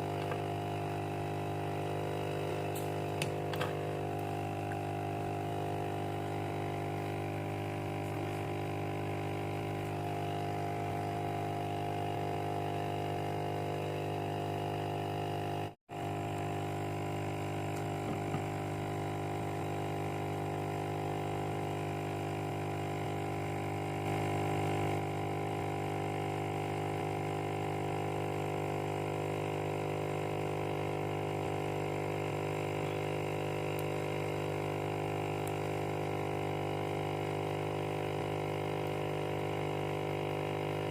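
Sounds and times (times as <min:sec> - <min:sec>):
small electric motor humming: 0:00.0 - 0:40.9.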